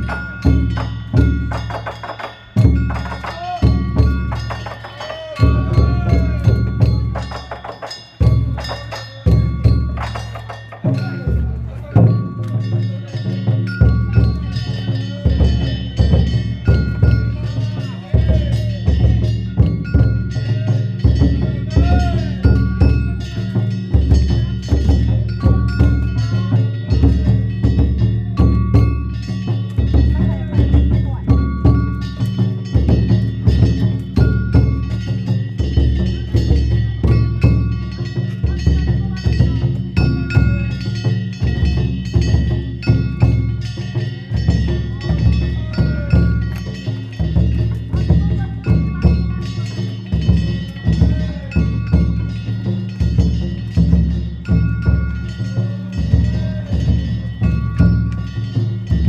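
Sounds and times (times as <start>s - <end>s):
hand gongs beaten rapidly: 0.0s - 59.0s
large drum strikes: 0.0s - 59.0s.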